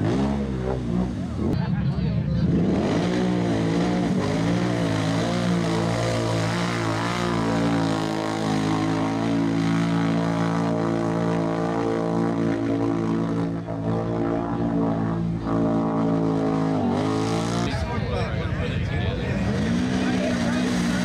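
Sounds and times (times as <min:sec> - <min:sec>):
atv engine revving: 0:00.0 - 0:01.6, 0:02.4 - 0:18.0, 0:19.2 - 0:21.0.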